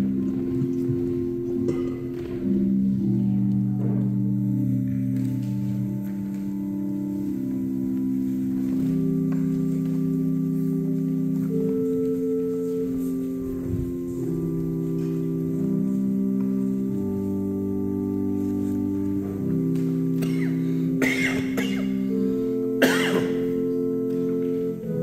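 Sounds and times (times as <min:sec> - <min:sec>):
organ playing sustained chords: 0:00.0 - 0:25.0.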